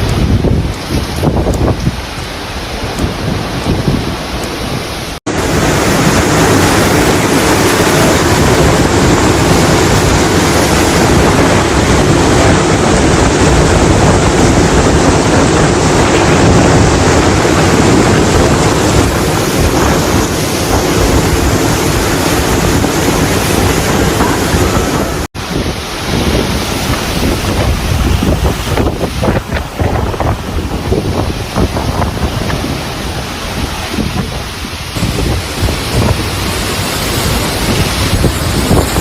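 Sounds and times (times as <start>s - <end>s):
rough water: 0.0s - 39.0s
strong wind roaring: 0.0s - 39.0s
wind buffeting microphone: 0.0s - 39.0s.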